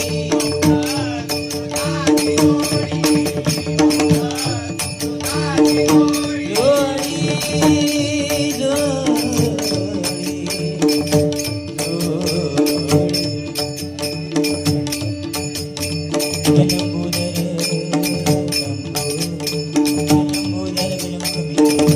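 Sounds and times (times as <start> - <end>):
devotional music: 0.0 - 21.9
jingling cymbals: 0.0 - 21.9
percussion beat: 0.0 - 21.9.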